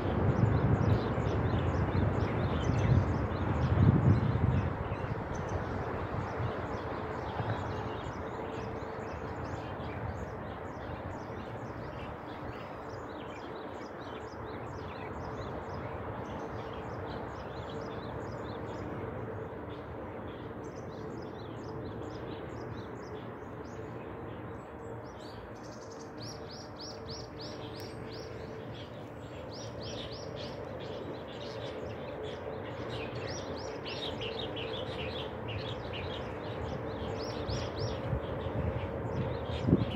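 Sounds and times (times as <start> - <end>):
songbirds chirping and singing: 0.0 - 39.9
steady background hum: 0.0 - 39.9.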